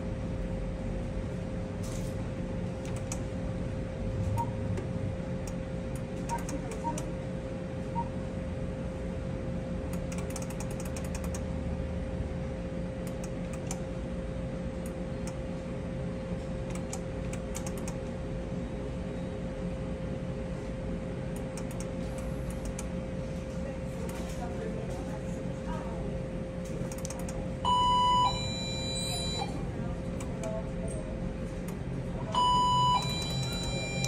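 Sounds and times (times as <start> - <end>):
electrical machine hum: 0.0 - 34.0.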